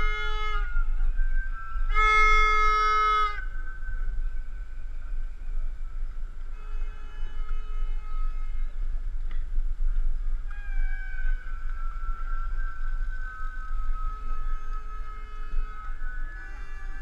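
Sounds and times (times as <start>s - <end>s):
long high-pitched tones: 0.0s - 17.0s
outdoor crowd noise: 0.0s - 17.0s
wind rumble on microphone: 0.0s - 17.0s.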